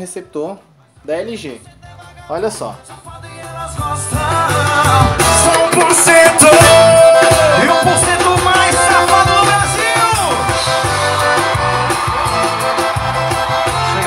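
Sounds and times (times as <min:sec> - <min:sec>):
song with singing over a beat: 0:00.6 - 0:14.0.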